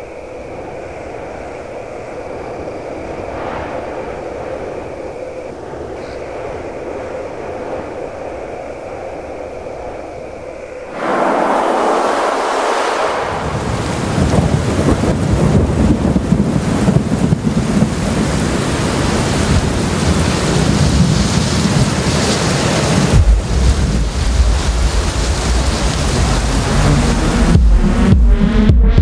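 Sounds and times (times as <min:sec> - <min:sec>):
heavy rain pouring: 0:00.0 - 0:28.5
deep rolling thunder: 0:00.8 - 0:10.0, 0:10.9 - 0:29.0.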